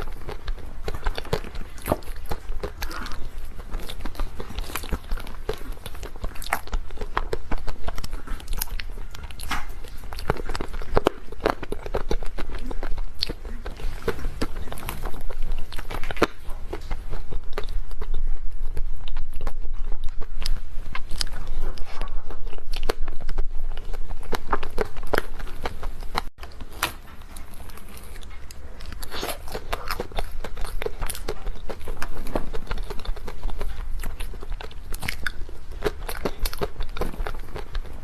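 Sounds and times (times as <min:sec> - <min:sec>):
chewing cake close up: 0:00.0 - 0:38.0.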